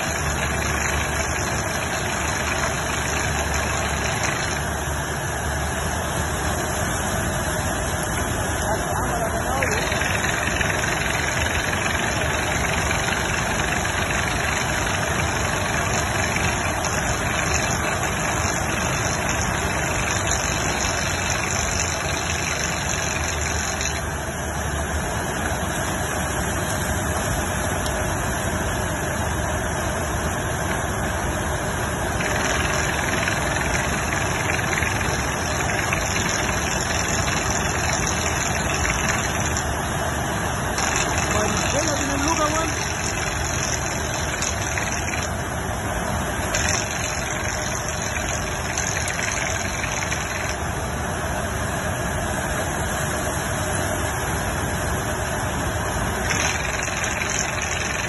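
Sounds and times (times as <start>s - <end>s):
drilling rig engine: 0.0s - 58.0s.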